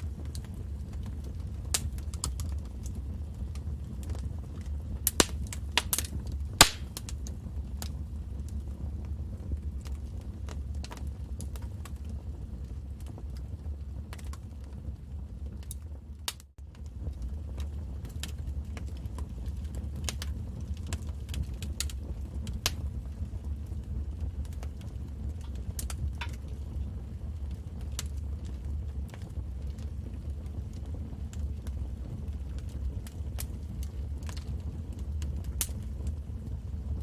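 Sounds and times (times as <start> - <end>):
low rumble of flame: 0.0 - 37.0
wood fire crackling and popping: 0.0 - 37.0.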